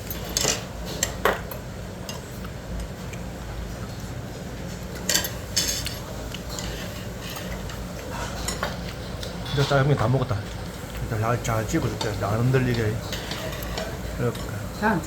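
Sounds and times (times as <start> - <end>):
utensils clinking against dishes: 0.0 - 3.2, 4.7 - 15.0.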